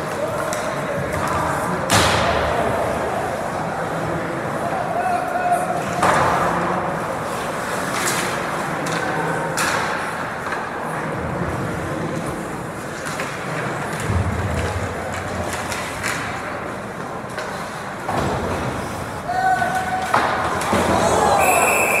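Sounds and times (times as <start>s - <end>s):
hockey sticks and puck clacking: 0.0s - 2.7s, 5.7s - 22.0s.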